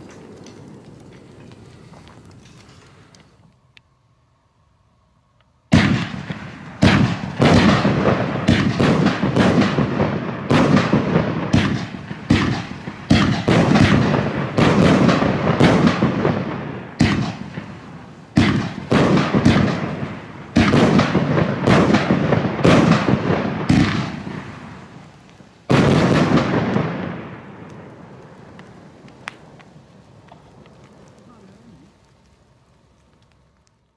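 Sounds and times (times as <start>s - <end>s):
fireworks bangs: 5.7s - 33.6s.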